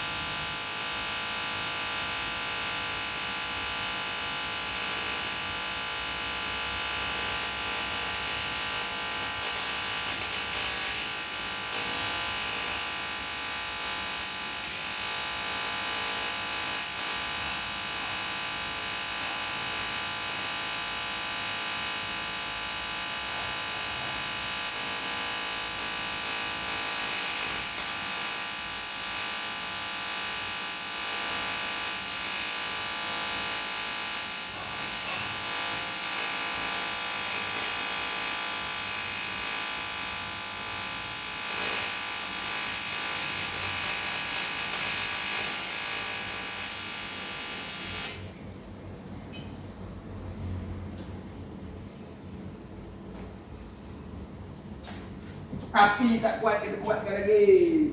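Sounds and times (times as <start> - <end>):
welding arc buzzing and hissing: 0.0 - 48.4, 55.8 - 57.9.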